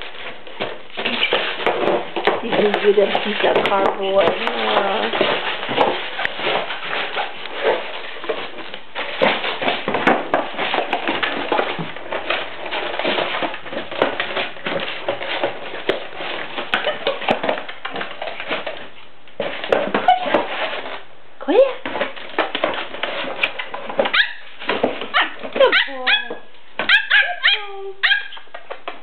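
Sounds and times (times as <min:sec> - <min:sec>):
cardboard crumpling: 0:00.0 - 0:21.1, 0:21.8 - 0:27.2.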